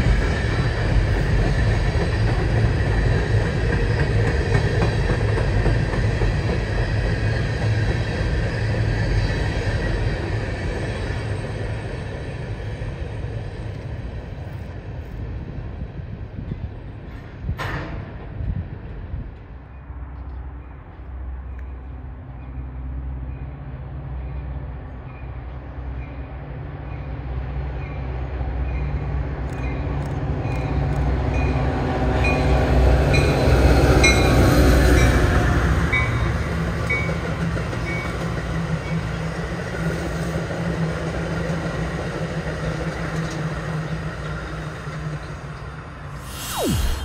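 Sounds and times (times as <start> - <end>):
train passing: 0.0 - 47.0.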